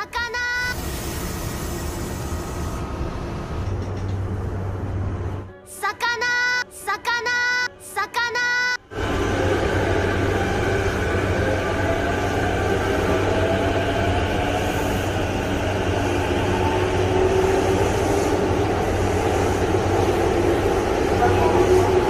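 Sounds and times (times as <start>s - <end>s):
train wheels rumbling on rail: 0.8s - 5.4s, 8.9s - 22.0s.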